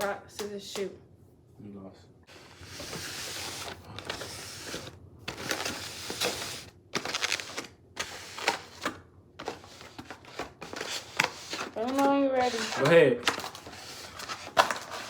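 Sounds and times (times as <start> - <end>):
food packaging crinkling: 2.9 - 15.0.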